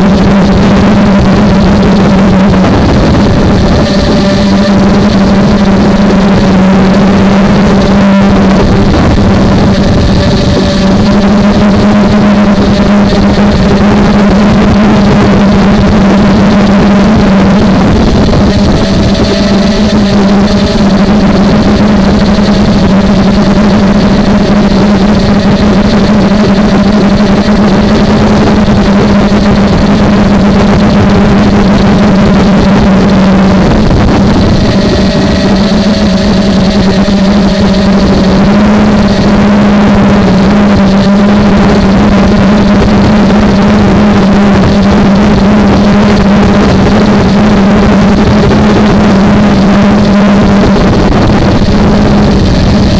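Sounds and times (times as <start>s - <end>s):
quadcopter motor drone: 0.0s - 52.9s.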